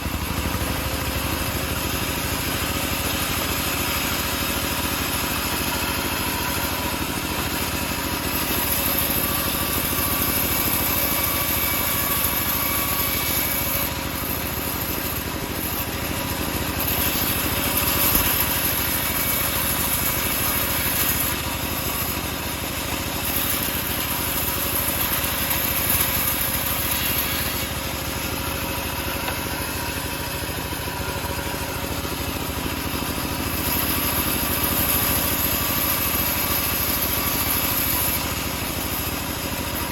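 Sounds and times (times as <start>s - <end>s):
bandsaw mill cutting wood: 0.0s - 39.9s.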